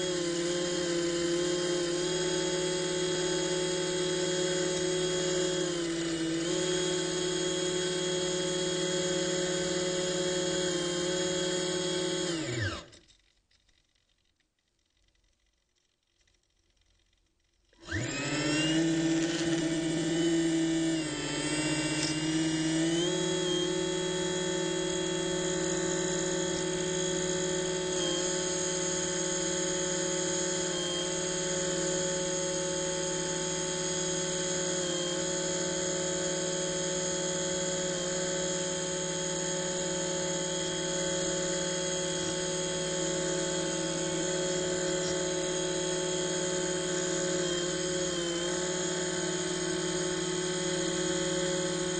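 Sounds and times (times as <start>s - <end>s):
electric motor whining: 0.0s - 13.0s, 17.8s - 51.9s.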